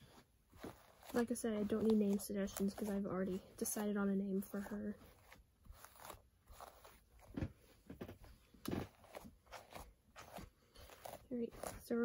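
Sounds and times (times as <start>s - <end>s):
hairbrush through tangled hair: 0.0s - 12.0s.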